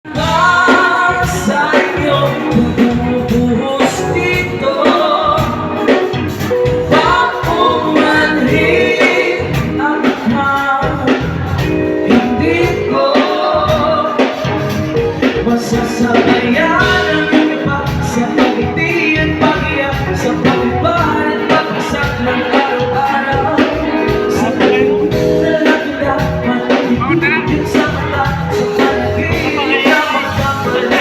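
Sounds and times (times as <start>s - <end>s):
bass: 0.0s - 31.0s
drum beat: 0.2s - 31.0s.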